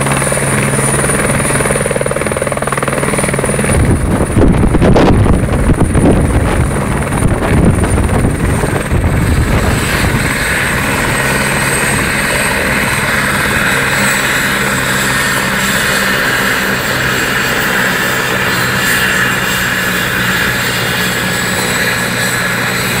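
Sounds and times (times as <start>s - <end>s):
helicopter rotor turning: 0.0s - 23.0s
high turbine whine: 0.0s - 23.0s.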